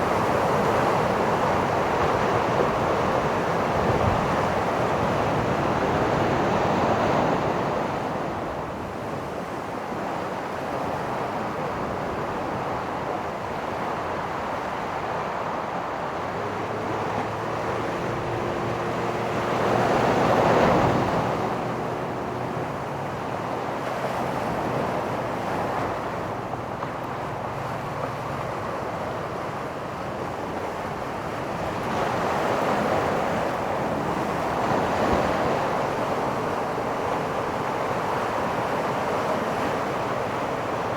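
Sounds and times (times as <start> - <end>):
ocean surf on beach: 0.0 - 40.9.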